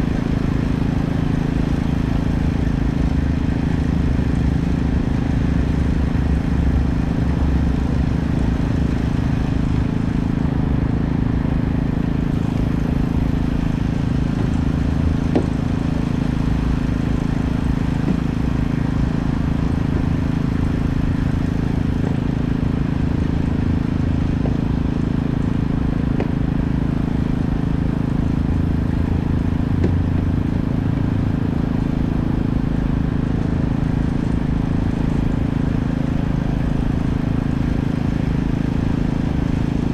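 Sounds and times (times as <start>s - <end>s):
engine hum and rumble: 0.0s - 39.9s.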